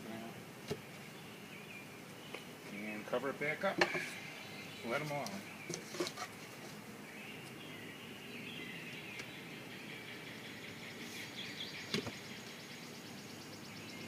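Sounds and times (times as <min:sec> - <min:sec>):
background hiss: 0:00.0 - 0:14.0
bird calls: 0:00.7 - 0:14.0.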